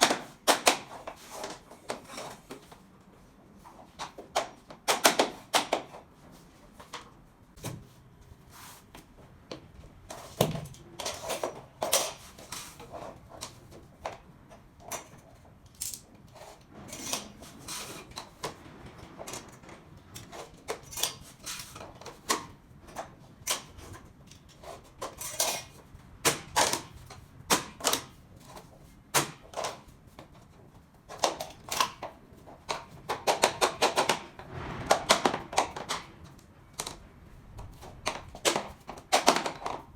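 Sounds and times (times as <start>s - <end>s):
floor planks clicking and scraping: 0.0s - 39.9s.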